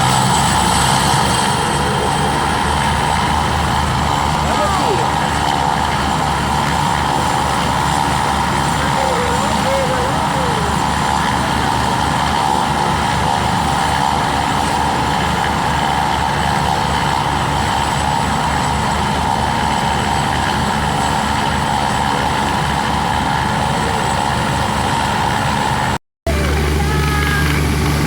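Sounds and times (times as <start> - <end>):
helicopter rotor blades beating: 0.0 - 28.0
helicopter whine: 0.0 - 28.0.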